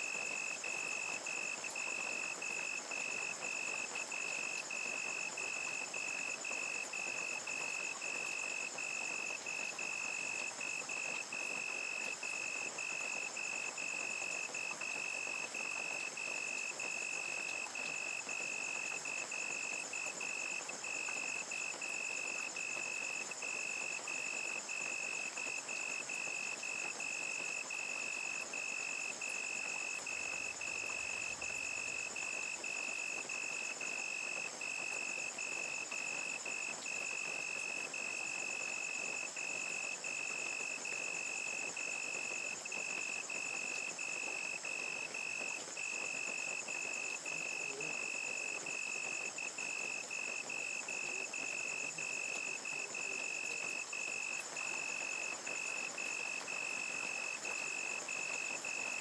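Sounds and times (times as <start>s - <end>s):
crickets trilling: 0.0s - 59.0s
rain falling: 0.0s - 59.0s.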